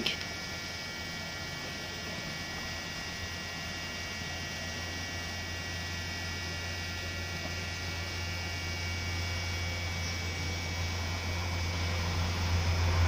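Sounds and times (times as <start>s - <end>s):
electrical hum: 0.0s - 13.0s
faint high whine: 0.0s - 13.0s.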